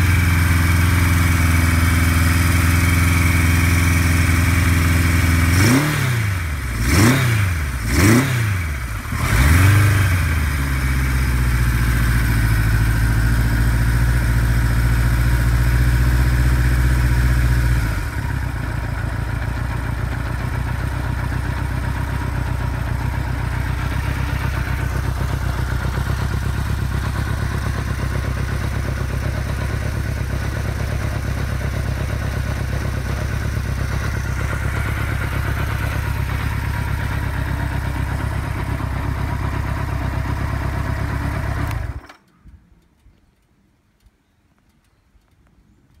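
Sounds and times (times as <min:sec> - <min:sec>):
motorcycle engine idling: 0:00.0 - 0:43.5.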